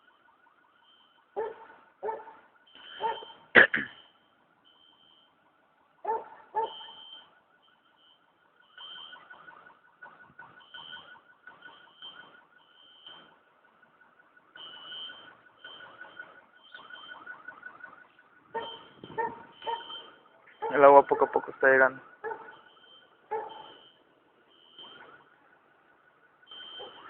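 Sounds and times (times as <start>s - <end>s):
distant car alarm chirping and warbling: 0.0s - 27.0s.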